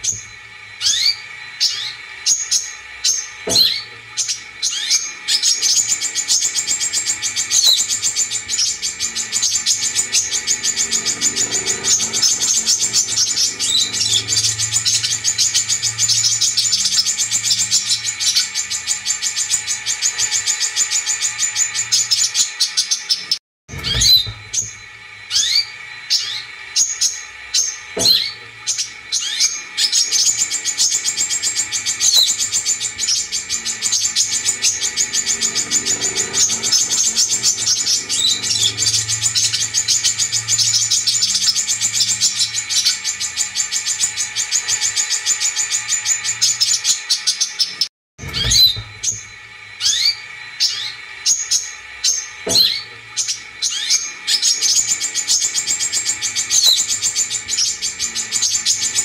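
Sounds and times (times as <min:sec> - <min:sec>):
bird chattering trill: 0:00.0 - 0:59.0
bird sharp chirps and whistles: 0:00.0 - 0:59.0.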